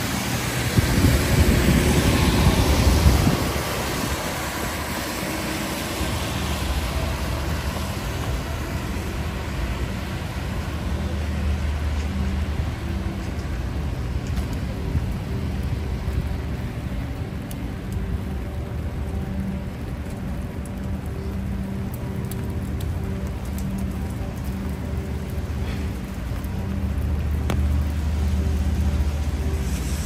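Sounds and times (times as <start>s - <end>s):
rain falling on street: 0.0s - 30.0s
traffic hum: 0.0s - 30.0s
raindrops tapping on umbrella: 4.1s - 30.0s.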